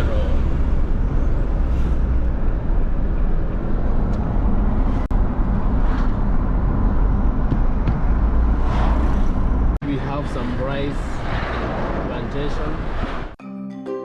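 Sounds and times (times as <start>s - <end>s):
road noise: 0.0s - 13.4s
vehicle rumble: 0.0s - 13.4s.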